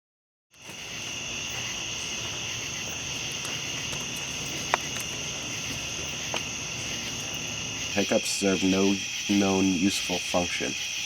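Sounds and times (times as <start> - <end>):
crickets chirring: 0.6 - 11.0.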